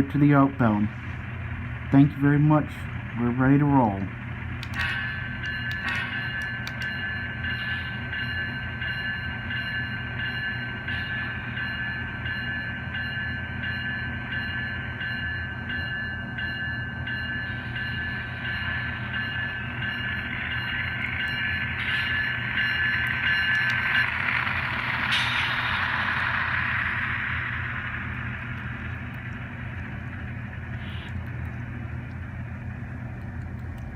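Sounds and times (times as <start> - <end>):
model train engine rumble: 0.0 - 33.9
thin high whine: 4.7 - 32.8.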